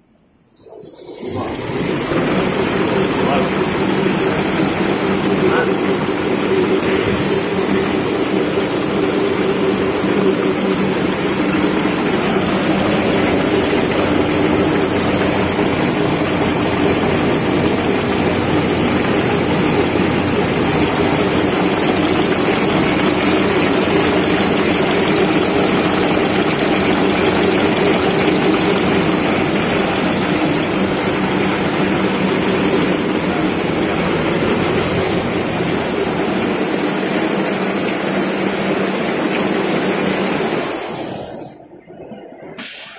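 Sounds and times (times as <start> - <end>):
paper rewinding machine drone: 0.6 - 41.2.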